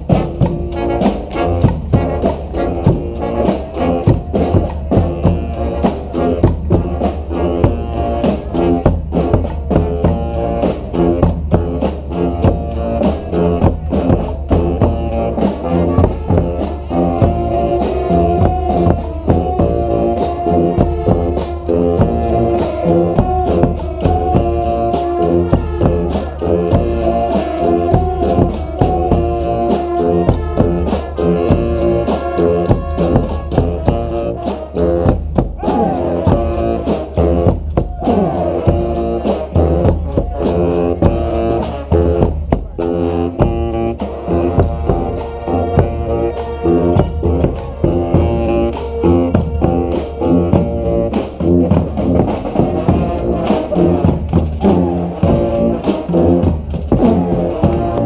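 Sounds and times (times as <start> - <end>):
bass drums steady beat: 0.0 - 58.0
brass horns playing melody: 0.0 - 58.0.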